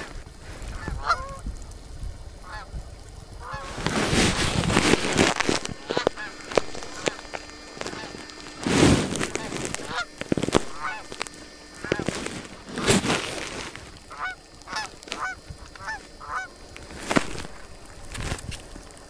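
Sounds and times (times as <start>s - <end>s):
geese honking: 0.7s - 1.4s, 2.4s - 2.7s, 3.4s - 18.3s.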